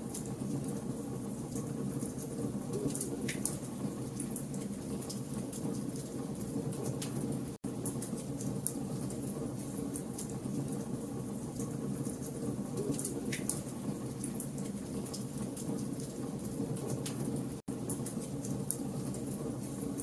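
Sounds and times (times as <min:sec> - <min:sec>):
campfire flames rumbling: 0:00.0 - 0:20.0.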